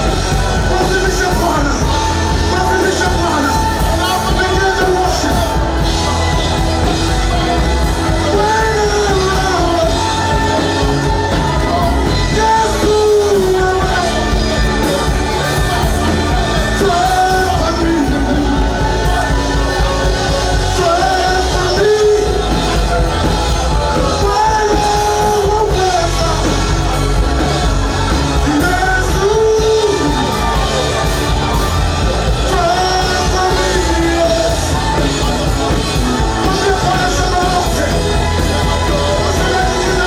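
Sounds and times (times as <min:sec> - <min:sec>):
full band with steady bass: 0:00.0 - 0:40.0
group singing worship music: 0:00.0 - 0:40.0.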